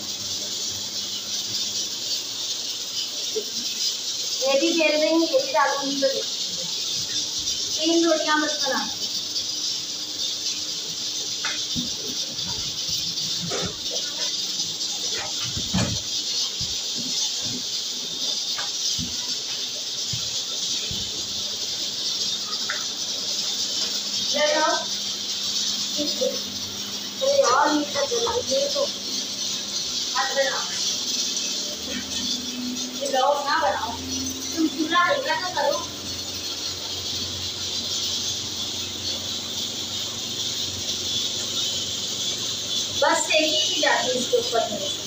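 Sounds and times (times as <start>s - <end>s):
steady high hiss: 0.0s - 45.0s.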